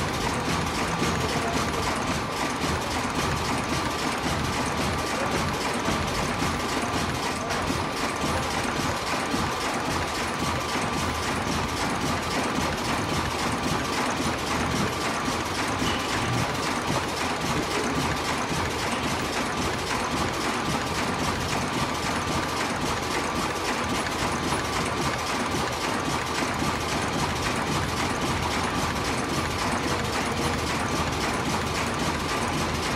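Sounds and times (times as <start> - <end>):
machine rapid mechanical clatter: 0.0 - 32.9.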